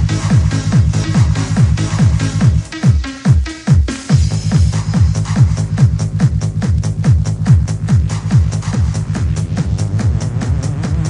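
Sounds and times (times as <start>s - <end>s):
bass line: 0.0s - 11.0s
deep kick drum: 0.0s - 11.0s
fast electronic dance music: 0.0s - 11.0s.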